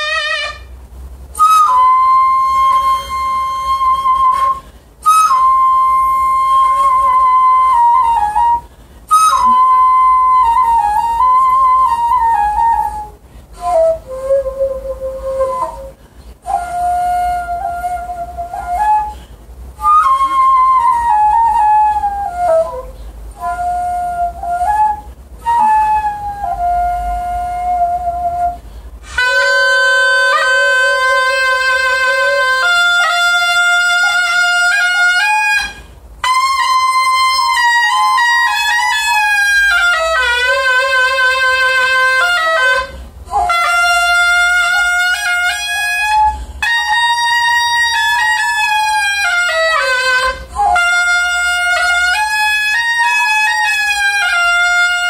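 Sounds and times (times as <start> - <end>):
bamboo flute slow melody: 0.0 - 55.0.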